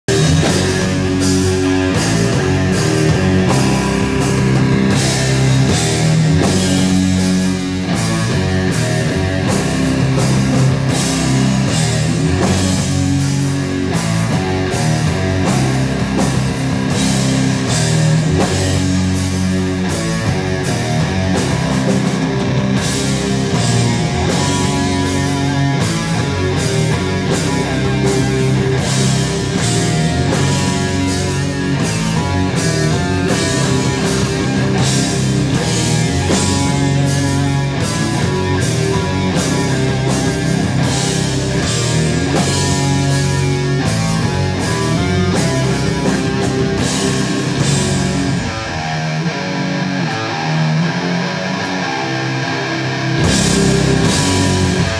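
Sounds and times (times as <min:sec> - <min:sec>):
drum kit and cymbals: 0:00.0 - 0:54.9
electric bass: 0:00.0 - 0:54.9
electric guitars: 0:00.0 - 0:54.9.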